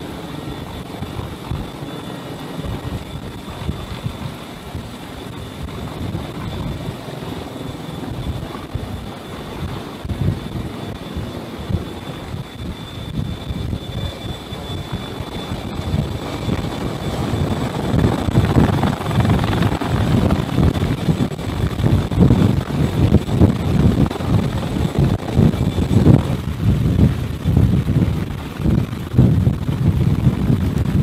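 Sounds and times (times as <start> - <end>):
faint high whine: 0.0 - 28.7
helicopter rotor rumble: 0.0 - 31.0
wind buffeting microphone: 0.0 - 31.0.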